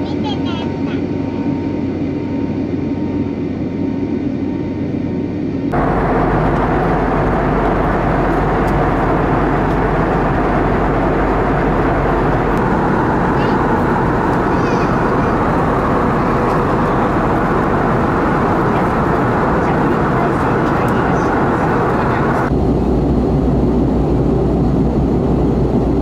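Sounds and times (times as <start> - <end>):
jet airliner cabin drone: 0.0 - 26.0.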